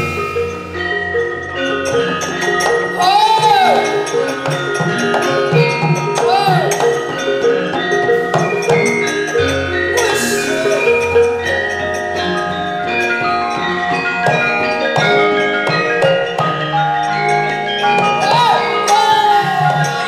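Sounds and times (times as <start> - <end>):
metallophones ringing: 0.0 - 20.0.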